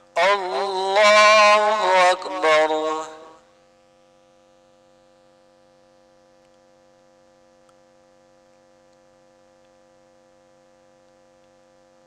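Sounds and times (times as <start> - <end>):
faint electrical mains hum: 0.0 - 12.0.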